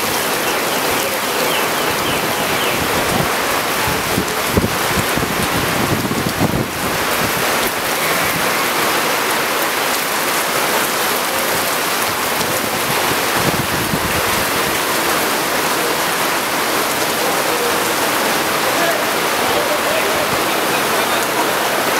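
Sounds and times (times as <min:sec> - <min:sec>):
heavy rain on pavement: 0:00.0 - 0:21.9.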